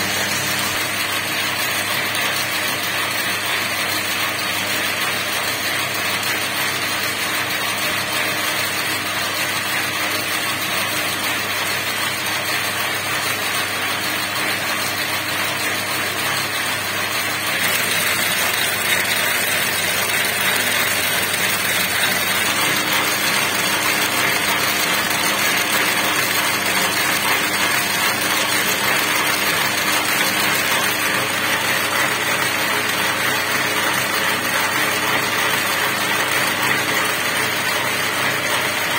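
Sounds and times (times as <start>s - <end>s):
braiding machine running: 0.0s - 38.9s.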